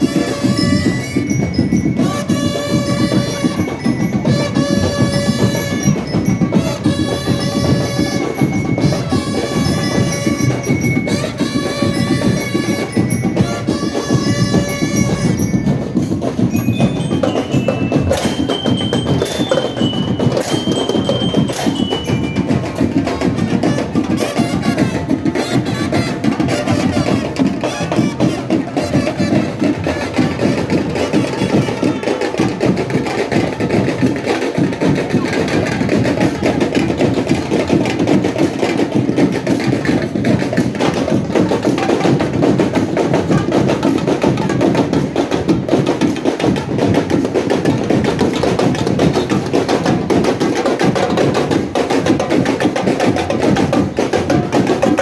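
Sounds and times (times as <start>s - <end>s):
drums: 0.0s - 55.0s
marching band playing: 0.0s - 55.0s.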